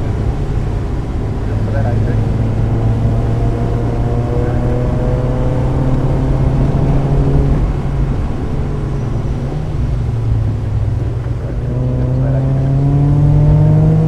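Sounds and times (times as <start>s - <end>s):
car engine under load: 0.0s - 14.0s.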